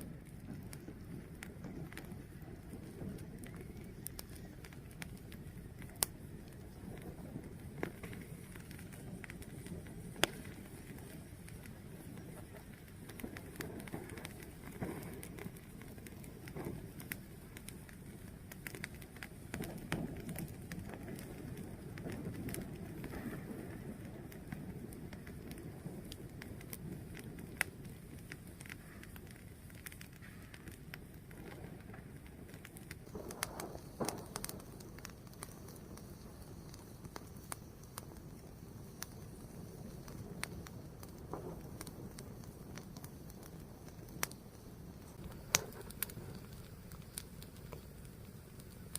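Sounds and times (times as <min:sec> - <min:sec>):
fire crackles and pops: 0:00.0 - 0:48.9
wood fire rushing: 0:00.0 - 0:48.9.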